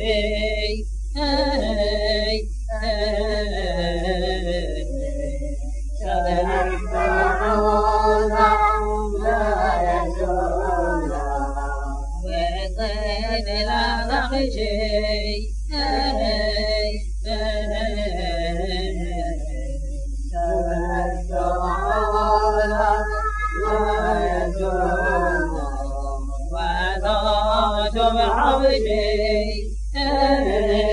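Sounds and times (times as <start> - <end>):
low hum: 0.0 - 30.9
unaccompanied person chanting: 0.0 - 30.9.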